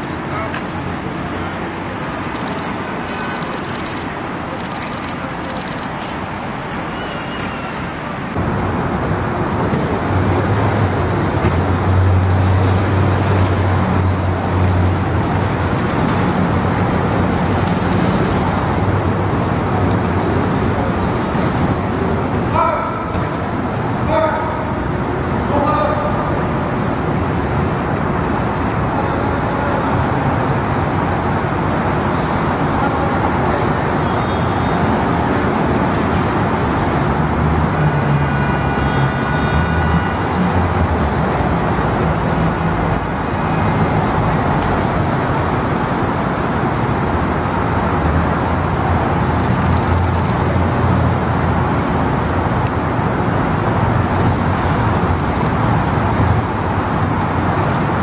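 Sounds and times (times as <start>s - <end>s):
cars driving past: 0.0s - 58.0s
city street traffic: 0.0s - 58.0s.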